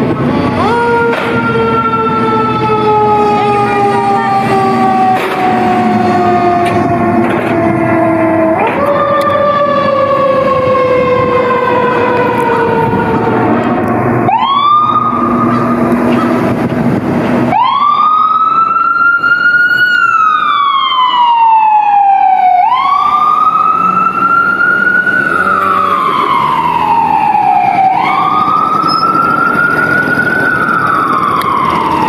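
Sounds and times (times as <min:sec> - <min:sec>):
mechanical siren wailing: 0:00.0 - 0:32.0.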